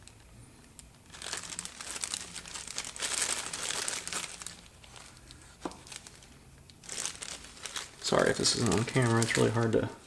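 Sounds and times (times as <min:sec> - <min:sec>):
plastic bag crinkling: 0:00.1 - 0:09.9.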